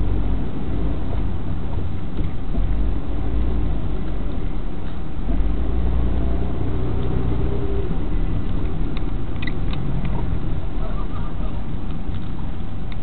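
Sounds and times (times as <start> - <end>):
car engine rumble and road noise: 0.0 - 13.0.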